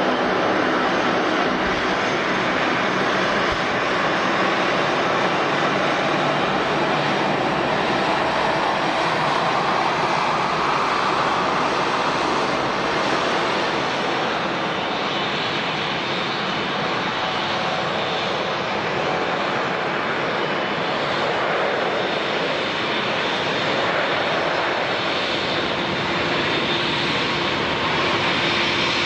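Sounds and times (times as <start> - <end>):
airliner engines running: 0.0 - 29.0.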